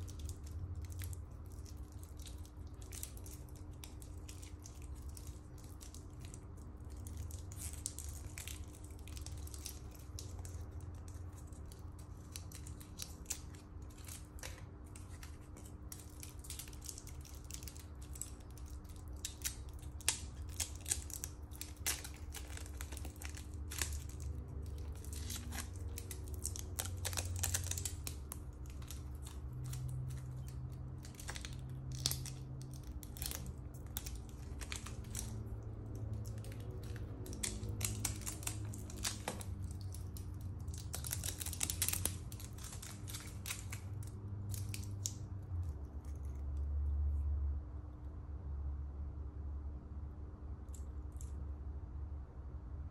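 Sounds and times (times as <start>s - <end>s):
plastic film crinkling and tearing: 0.0s - 46.4s.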